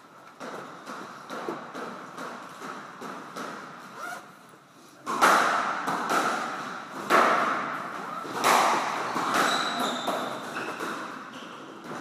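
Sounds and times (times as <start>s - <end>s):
squash ball hits: 0.4s - 3.9s, 5.1s - 12.0s.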